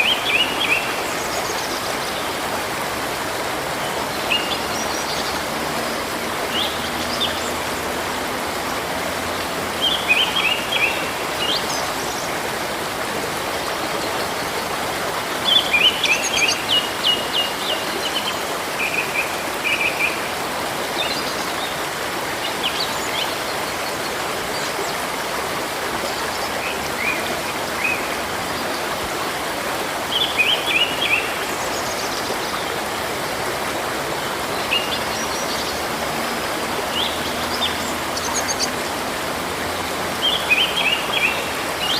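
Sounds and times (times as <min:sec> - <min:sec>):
river rushing: 0:00.0 - 0:41.9
songbirds chirping: 0:00.0 - 0:41.9.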